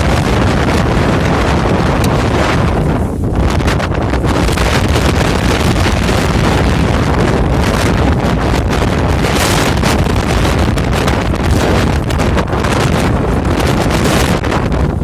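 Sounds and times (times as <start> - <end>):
blizzard wind roaring: 0.0 - 15.0.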